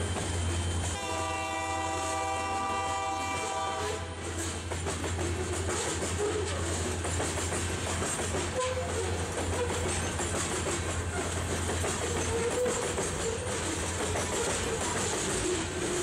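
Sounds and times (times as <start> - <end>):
freight train rolling past: 0.0 - 16.0
wheels clacking over rail joints: 0.0 - 16.0.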